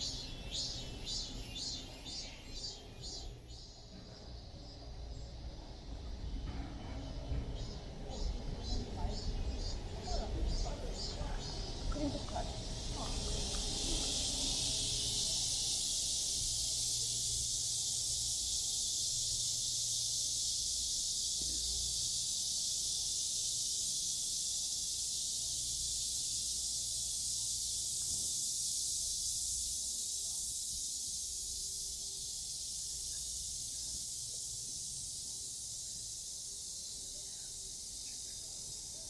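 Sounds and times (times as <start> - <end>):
cicadas singing: 0.0 - 39.0.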